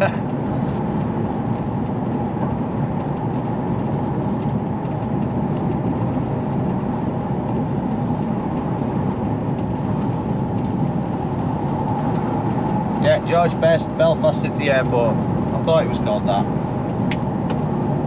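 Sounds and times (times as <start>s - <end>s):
lorry cab engine and road drone: 0.0s - 18.0s.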